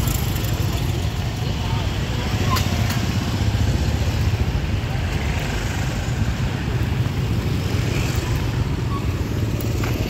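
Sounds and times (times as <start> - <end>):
road noise: 0.0 - 10.0
vehicle engines rumbling: 0.0 - 10.0.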